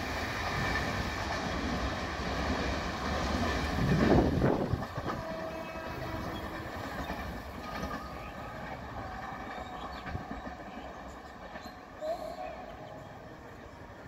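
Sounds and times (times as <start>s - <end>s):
train wheel-and-rail rumble: 0.0s - 14.0s.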